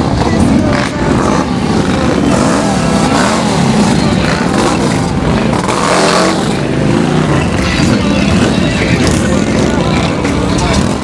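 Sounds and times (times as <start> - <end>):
motorcycle engines revving: 0.0 - 11.0
voices: 0.0 - 11.0.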